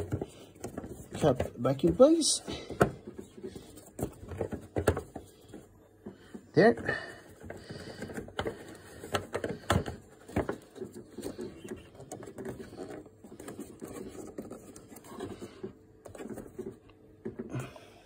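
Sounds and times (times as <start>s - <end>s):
rubbing and scraping handling noise: 0.0s - 17.9s.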